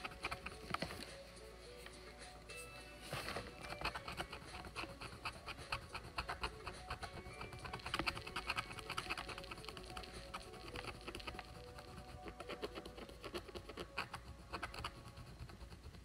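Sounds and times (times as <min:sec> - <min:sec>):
stylus scratching paper: 0:00.0 - 0:01.2, 0:03.1 - 0:16.0.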